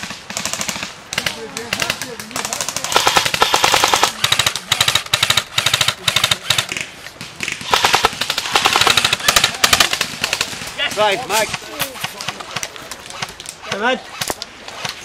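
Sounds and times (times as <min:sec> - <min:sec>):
airsoft rifles firing bursts: 0:00.0 - 0:15.0.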